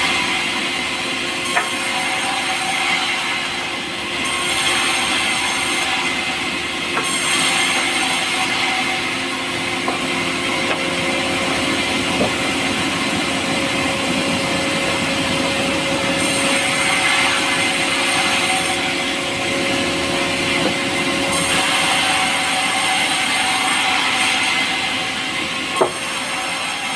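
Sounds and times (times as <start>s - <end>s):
power saw cutting wood: 0.0s - 26.9s.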